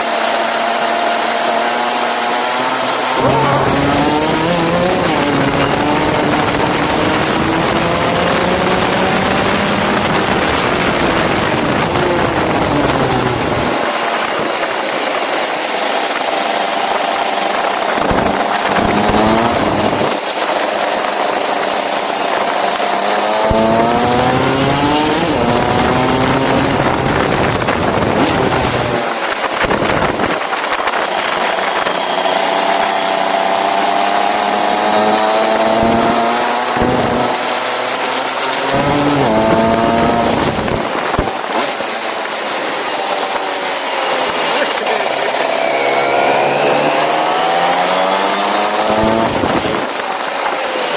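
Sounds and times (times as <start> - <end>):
go-kart engine revving: 0.0 - 50.9.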